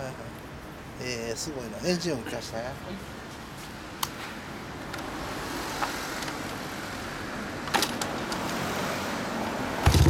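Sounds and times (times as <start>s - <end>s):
street traffic hiss: 0.0s - 10.0s.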